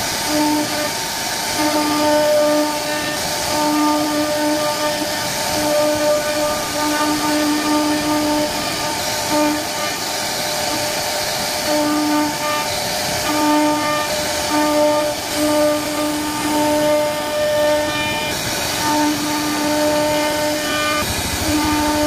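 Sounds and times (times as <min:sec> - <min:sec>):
fixed-pitch machine hum: 0:00.0 - 0:22.0
machine cutting wood: 0:00.0 - 0:22.0.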